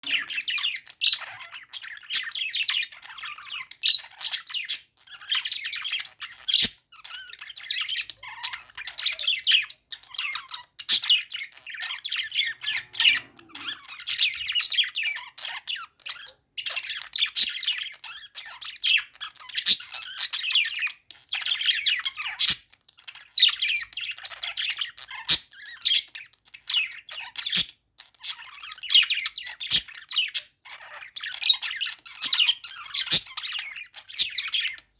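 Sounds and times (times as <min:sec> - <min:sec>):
budgerigars chattering: 0:00.0 - 0:34.9
sharp chirps and squawks: 0:00.0 - 0:34.9.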